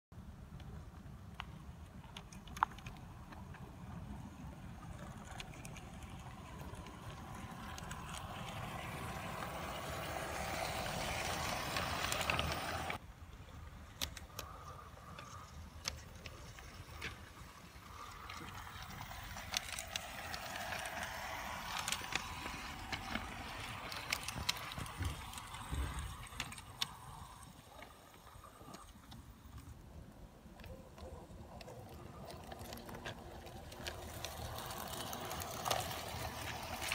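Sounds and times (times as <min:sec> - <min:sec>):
wheels clicking on rails: 0:00.2 - 0:36.9
model train motor whirring: 0:02.2 - 0:13.0, 0:13.6 - 0:36.9.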